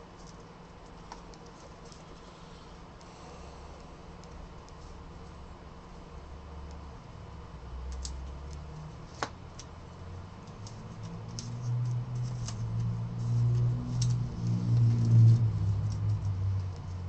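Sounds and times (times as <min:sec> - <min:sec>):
low hum: 0:01.8 - 0:17.0.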